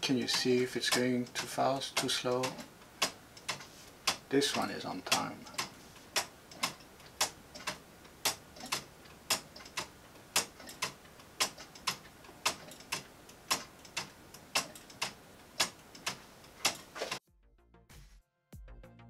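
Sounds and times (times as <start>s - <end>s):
clock ticking clicks: 0.0s - 17.2s
fainter clicks: 0.0s - 17.2s.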